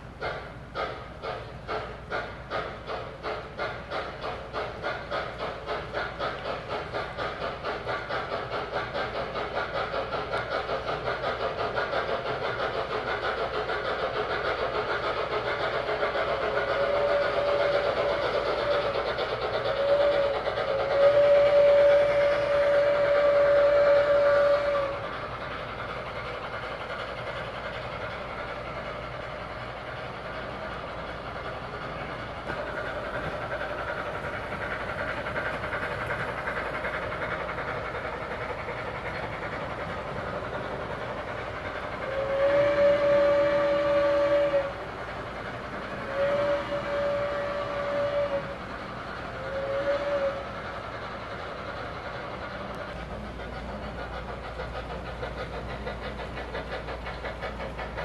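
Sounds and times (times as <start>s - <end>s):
model train running: 0.0s - 58.0s
model train steam whistle: 0.0s - 58.0s.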